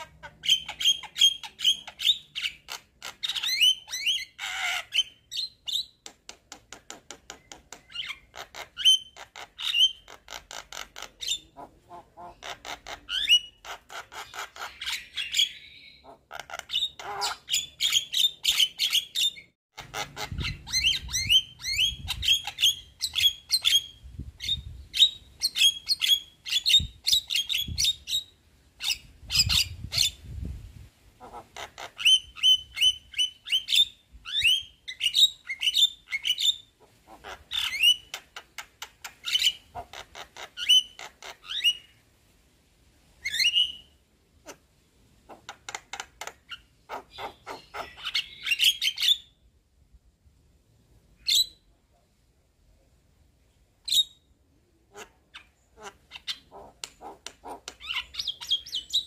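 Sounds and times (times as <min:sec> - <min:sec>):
bird chattering song: 0:00.0 - 0:30.2, 0:31.2 - 0:42.0, 0:45.3 - 0:49.4, 0:54.9 - 0:59.0.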